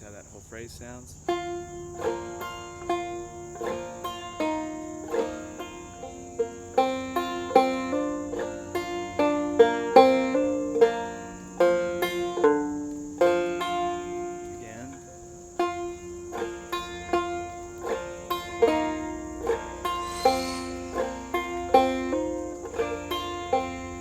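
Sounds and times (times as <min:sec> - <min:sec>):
banjo picking: 0:00.0 - 0:24.0.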